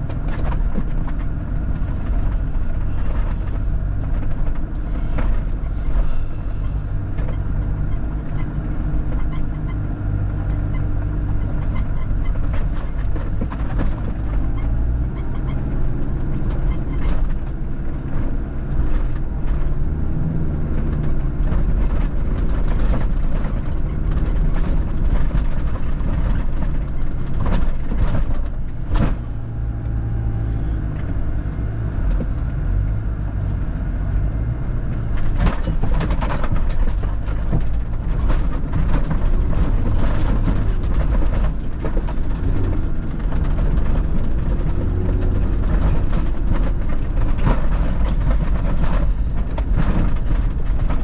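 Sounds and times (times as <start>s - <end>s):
knocks and rattles from rough track: 0.0s - 51.0s
vehicle engine rumbling: 0.0s - 51.0s.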